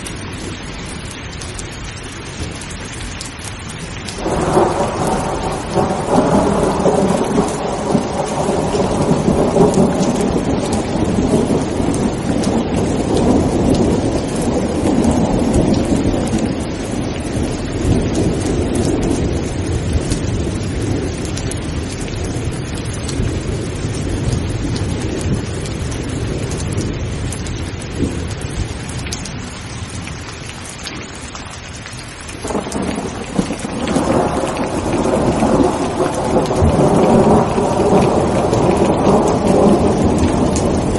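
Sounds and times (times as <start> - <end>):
heavy rain: 0.0 - 40.9
rolling thunder: 4.1 - 30.0, 32.4 - 40.9.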